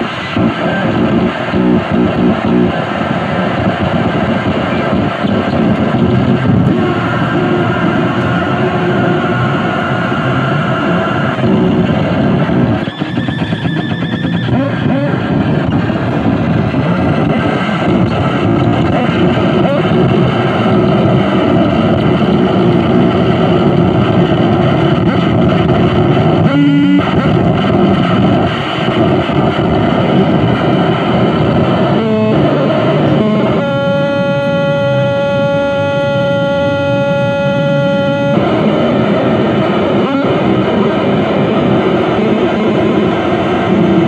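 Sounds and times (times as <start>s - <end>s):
held tone with overtones: 0.0s - 43.6s
harsh electronic noise music: 0.0s - 44.0s.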